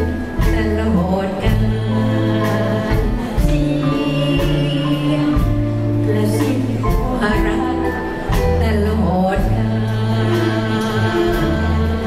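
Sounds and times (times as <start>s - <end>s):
live band with bass and drums: 0.0s - 12.0s
woman singing into microphone: 0.0s - 12.0s.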